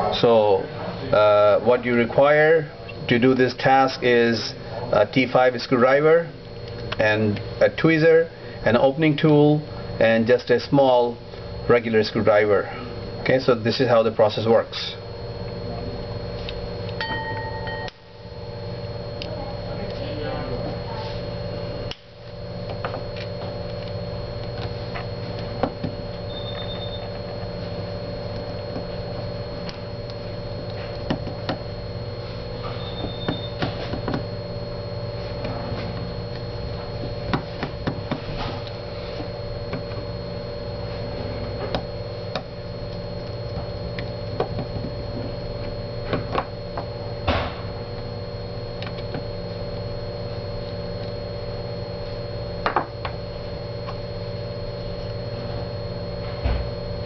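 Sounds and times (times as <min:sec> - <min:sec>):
steady electrical hum: 0:00.0 - 0:57.0.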